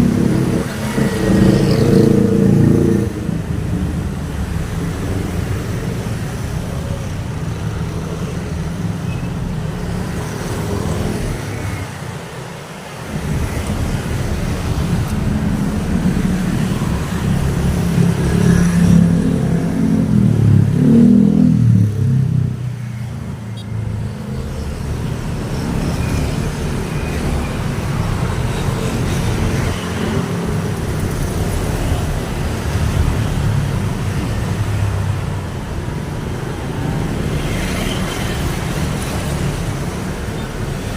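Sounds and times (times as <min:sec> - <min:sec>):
vehicles passing on road: 0:00.0 - 0:40.9.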